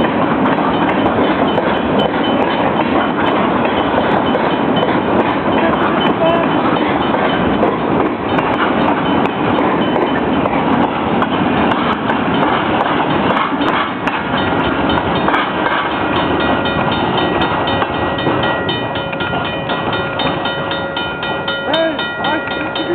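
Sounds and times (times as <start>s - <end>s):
crossing bell ringing: 0.0s - 22.9s
train wheels rumbling on rail: 0.0s - 22.9s.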